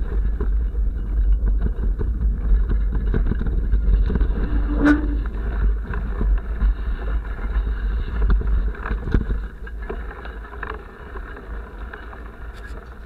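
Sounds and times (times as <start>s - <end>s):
bike knocks and rattles: 0.0s - 13.0s
wind buffeting microphone: 0.0s - 13.0s.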